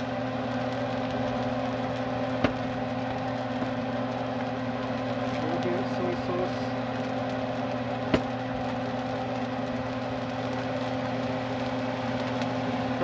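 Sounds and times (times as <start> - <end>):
motor hum and whir: 0.0 - 13.0.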